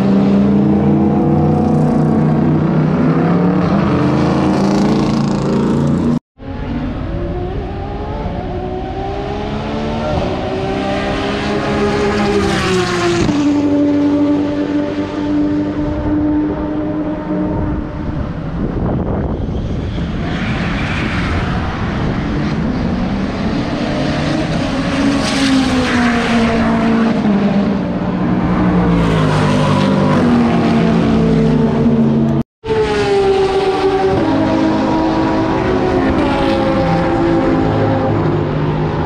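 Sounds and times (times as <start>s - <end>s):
race car engines passing by: 0.0s - 39.0s.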